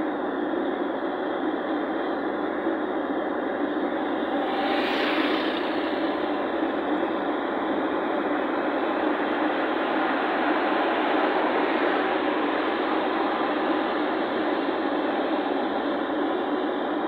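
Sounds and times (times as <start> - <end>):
vehicle engine and road noise: 1.9 - 16.7.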